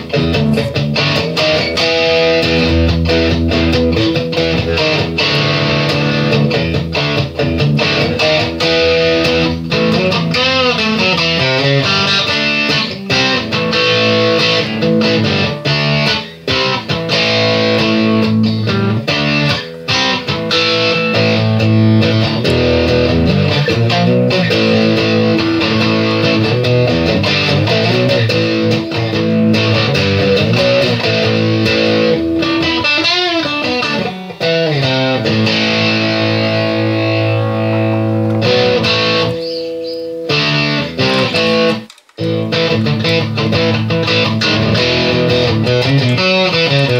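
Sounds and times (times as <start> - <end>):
electric guitar music: 0.0 - 46.9.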